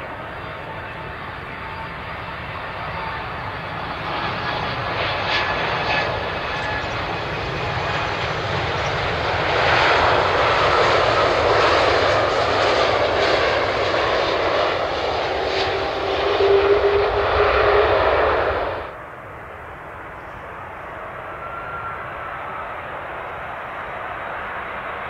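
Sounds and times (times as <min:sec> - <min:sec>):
jet engines whine and rush: 0:00.0 - 0:25.0.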